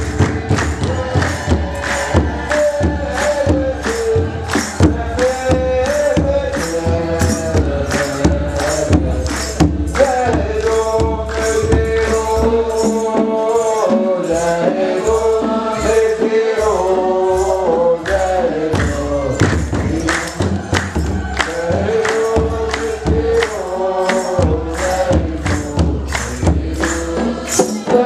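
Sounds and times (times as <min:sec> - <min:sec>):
hand-clapping: 0:00.0 - 0:13.2, 0:18.0 - 0:28.0
hand drum beat: 0:00.0 - 0:28.0
many voices singing a hymn: 0:00.0 - 0:28.0.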